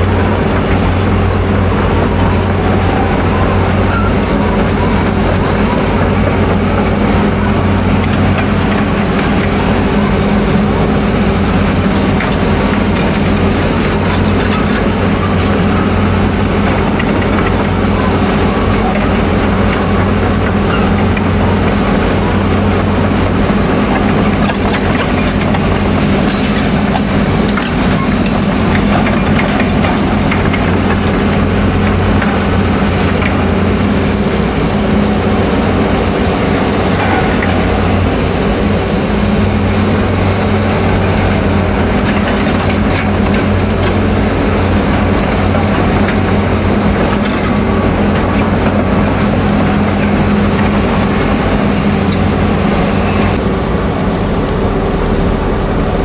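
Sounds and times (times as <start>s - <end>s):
engine humming: 0.0s - 56.0s
rushing noise: 0.0s - 56.0s.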